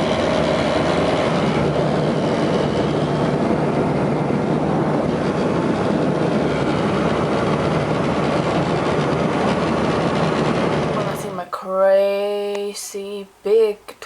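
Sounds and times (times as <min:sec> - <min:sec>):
vehicle rumbling in motion: 0:00.0 - 0:11.4.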